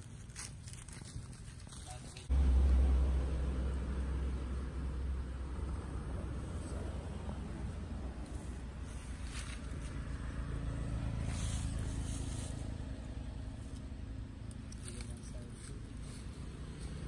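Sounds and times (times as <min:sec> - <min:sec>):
low background rumble: 0:01.1 - 0:17.0.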